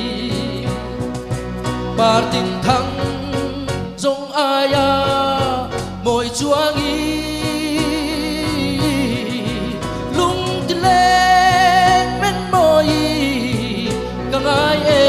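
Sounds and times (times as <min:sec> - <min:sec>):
man singing into a microphone: 0:00.0 - 0:01.2, 0:01.8 - 0:15.0
live band playing: 0:00.0 - 0:15.0.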